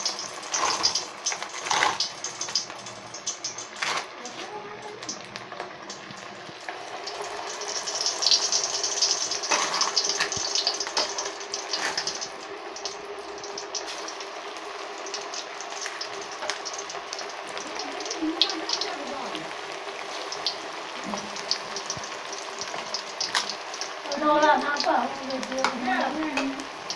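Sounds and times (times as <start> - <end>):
oil sizzling while deep-frying: 0.0 - 26.9.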